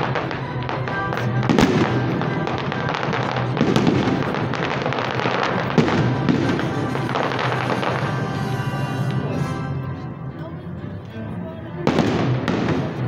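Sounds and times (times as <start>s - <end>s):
fireworks bursting and crackling: 0.0s - 9.7s, 11.8s - 13.0s
music playing: 0.0s - 13.0s.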